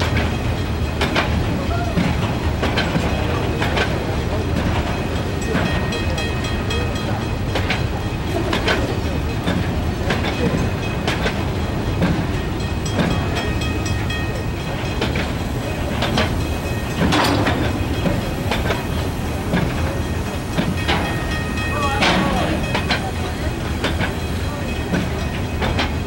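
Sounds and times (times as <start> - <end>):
freight wagons rumbling: 0.0 - 26.0
wheel clacks over rail joints: 0.0 - 26.0.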